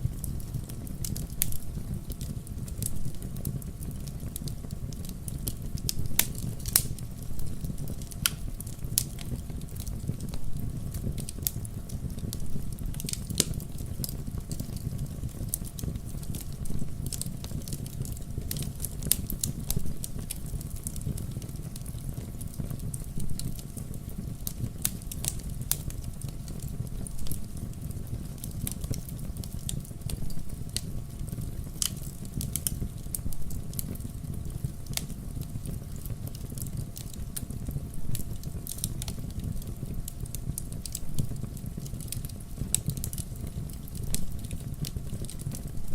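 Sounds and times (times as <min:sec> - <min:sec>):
low rumble of flames: 0:00.0 - 0:45.9
logs crackling and popping: 0:00.1 - 0:45.9.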